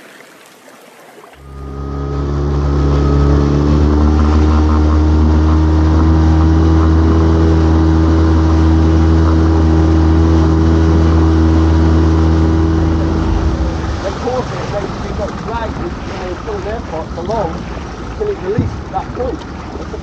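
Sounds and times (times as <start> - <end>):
water rushing along hull: 0.0 - 20.0
boat engine running steadily: 1.4 - 20.0.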